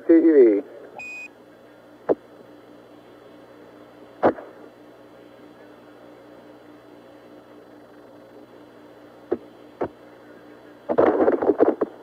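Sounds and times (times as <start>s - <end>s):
faint hum: 0.0s - 12.0s
radio hiss: 0.0s - 12.0s.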